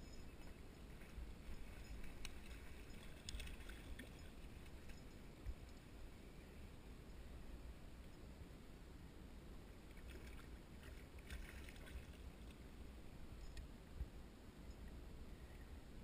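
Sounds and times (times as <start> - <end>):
faint muffled water: 0.0 - 16.0.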